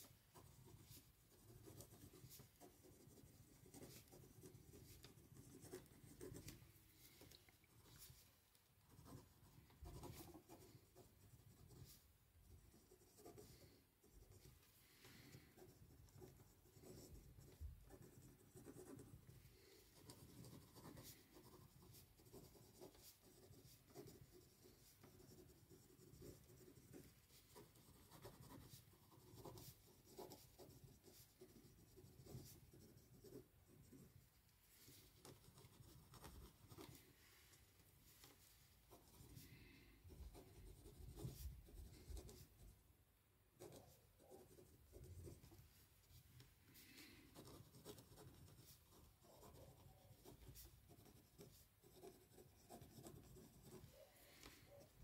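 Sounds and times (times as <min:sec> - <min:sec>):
pen scratching on paper: 0:00.0 - 0:08.2, 0:08.9 - 0:14.6, 0:15.6 - 0:34.2, 0:34.9 - 0:37.1, 0:38.9 - 0:42.7, 0:43.6 - 0:45.7, 0:47.0 - 0:54.1.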